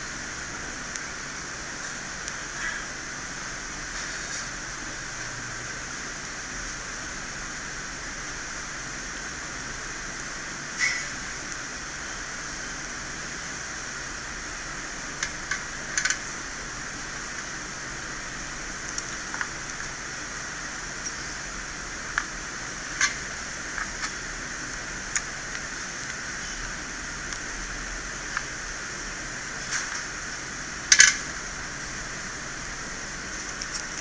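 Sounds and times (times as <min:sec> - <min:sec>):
fan-like equipment hiss: 0:00.0 - 0:34.0.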